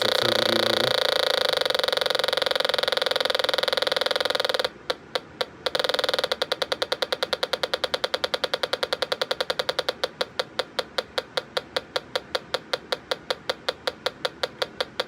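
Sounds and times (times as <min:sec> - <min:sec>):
gas detector beeping: 0:00.0 - 0:15.0.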